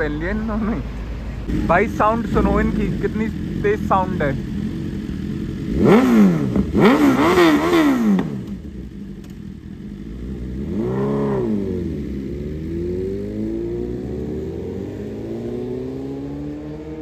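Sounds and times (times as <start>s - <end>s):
motorcycle engine revving: 1.4s - 17.0s.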